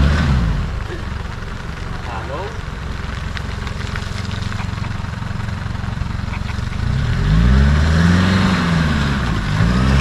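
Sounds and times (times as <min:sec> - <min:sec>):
car engine revving under load: 0:00.0 - 0:10.0.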